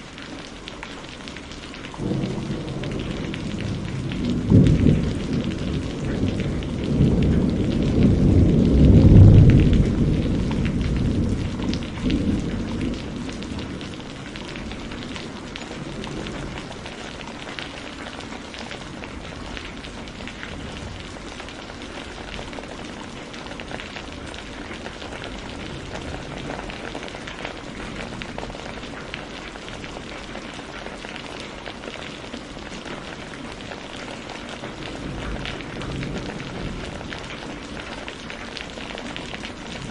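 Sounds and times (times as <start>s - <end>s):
rain pattering: 0.0s - 39.9s
low rumble of thunder: 1.9s - 39.9s.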